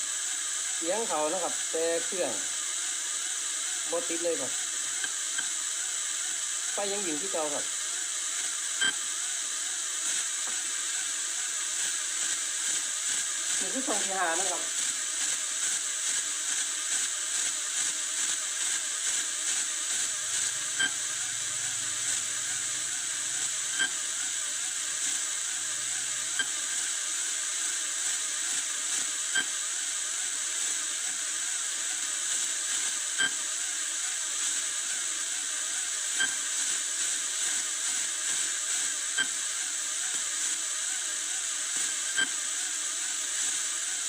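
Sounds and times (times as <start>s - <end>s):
electronic hiss: 0.0s - 44.0s.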